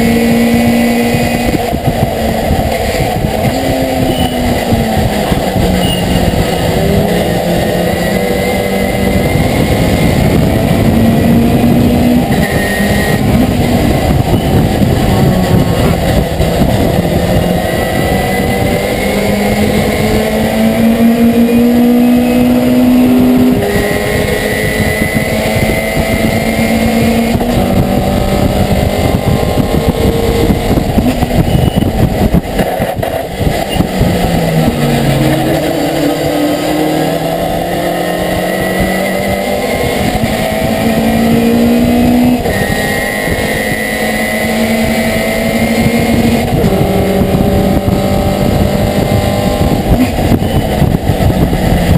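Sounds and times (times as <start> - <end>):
road and cab rumble: 0.0 - 51.9
truck engine revving: 0.0 - 51.9.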